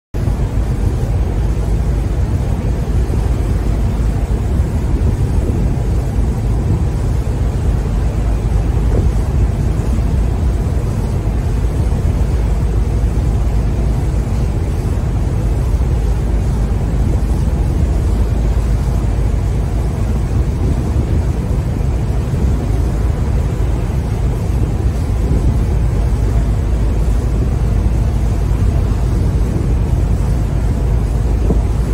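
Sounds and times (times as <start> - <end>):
sea water rushing along boat: 0.1 - 31.9
wind buffeting microphone: 0.1 - 31.9.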